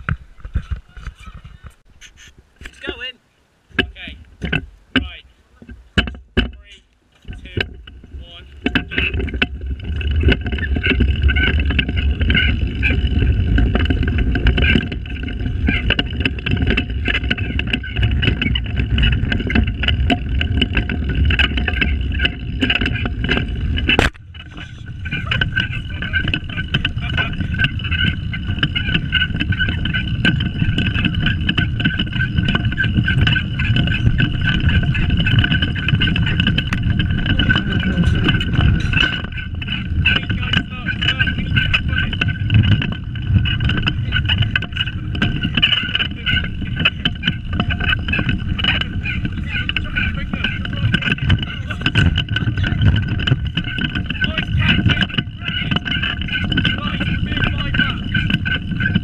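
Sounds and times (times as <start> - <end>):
go-kart wheels rumbling on asphalt: 0.0 - 3.0, 3.7 - 59.0.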